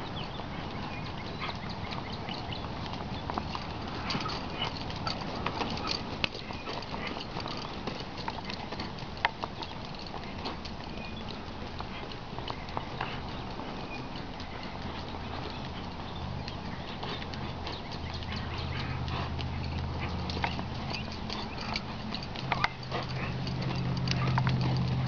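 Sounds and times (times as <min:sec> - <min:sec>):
horse hoofbeats on dirt: 0:00.0 - 0:25.0.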